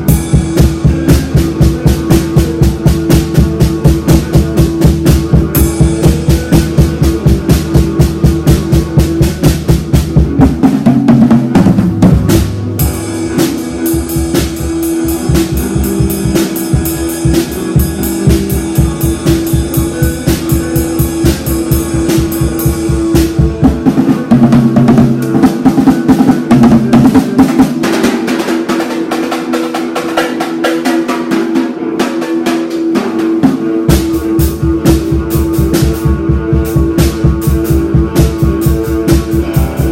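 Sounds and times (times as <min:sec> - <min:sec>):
drum kit playing fast beat: 0:00.0 - 0:39.9.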